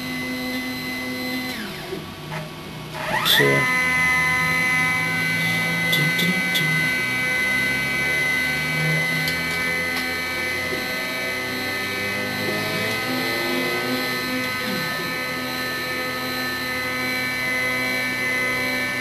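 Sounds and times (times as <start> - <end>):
milling machine spindle whine: 0.0 - 19.0.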